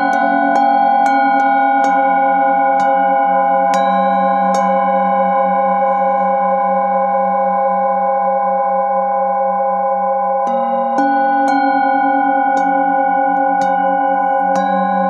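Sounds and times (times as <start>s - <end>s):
singing bowls struck with mallet: 0.0s - 7.9s, 10.4s - 15.0s.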